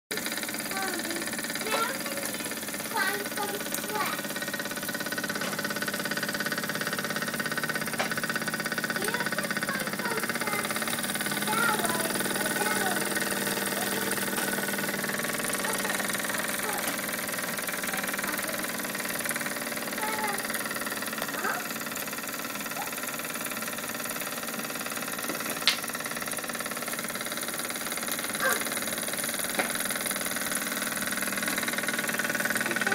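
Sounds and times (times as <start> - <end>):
toy steam engine exhaust beats: 0.1 - 32.9.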